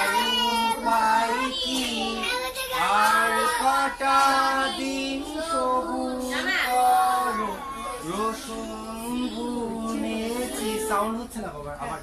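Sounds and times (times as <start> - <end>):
young voices singing: 0.0 - 11.3.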